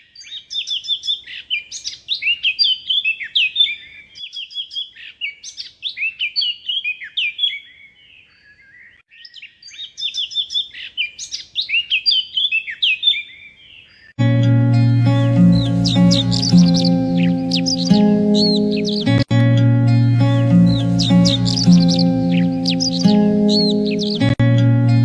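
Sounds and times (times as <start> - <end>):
small birds chirping: 0.0 - 14.2, 15.0 - 25.0.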